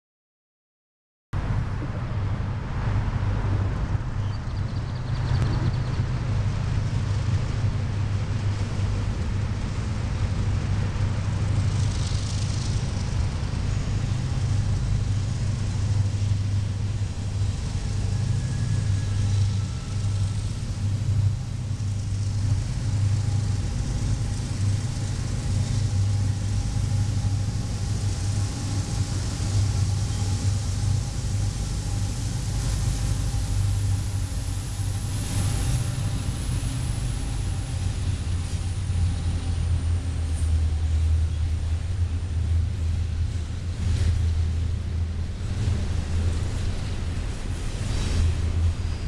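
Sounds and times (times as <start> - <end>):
freight locomotives passing: 1.4 - 49.0.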